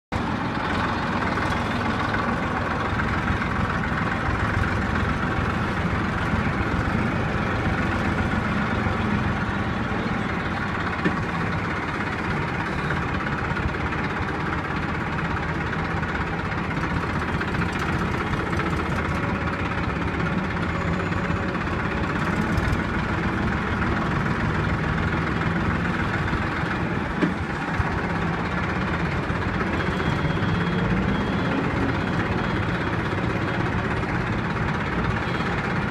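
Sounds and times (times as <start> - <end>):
diesel tractor engine running: 0.1 - 35.9.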